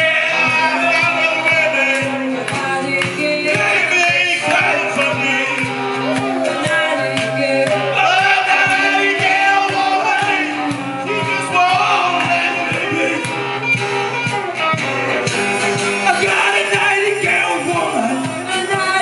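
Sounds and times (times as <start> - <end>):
live blues band playing: 0.0 - 19.0.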